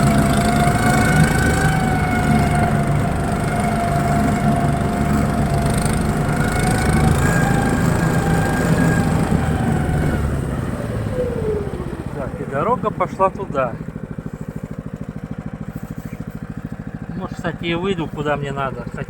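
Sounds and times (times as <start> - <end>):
single-cylinder engine running: 0.0 - 19.0.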